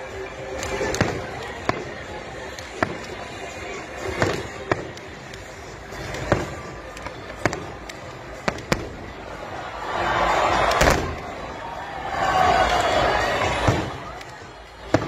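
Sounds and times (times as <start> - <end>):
fireworks bursting with bangs: 0.4 - 15.0.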